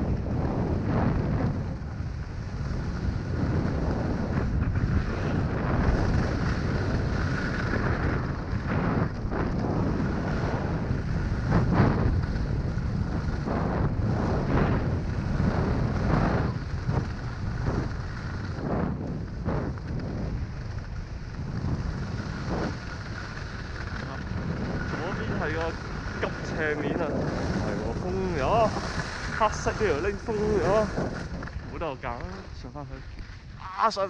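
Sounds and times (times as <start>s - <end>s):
wind buffeting microphone: 0.0s - 34.0s
ski edges scraping snow: 0.7s - 34.0s.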